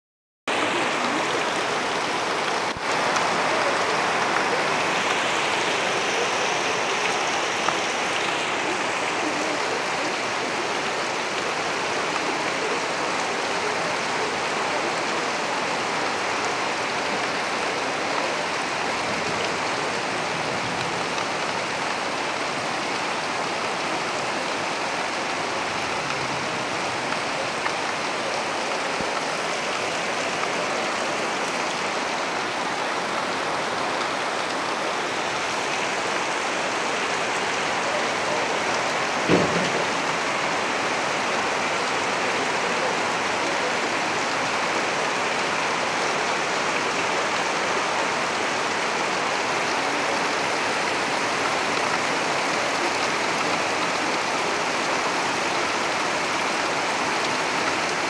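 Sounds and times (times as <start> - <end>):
heavy rain falling: 0.5 - 58.0.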